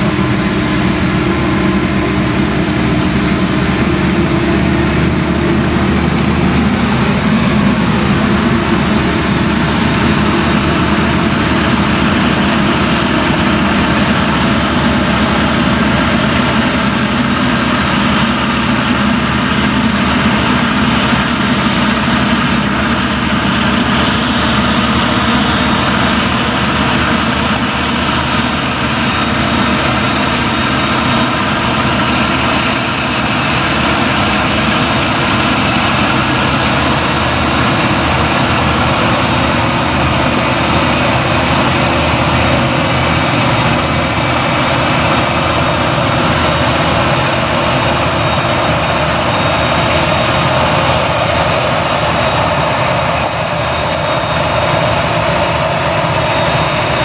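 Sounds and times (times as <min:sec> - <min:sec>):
forage harvester engine running: 0:00.0 - 0:57.0
tractor engine running: 0:00.0 - 0:57.0.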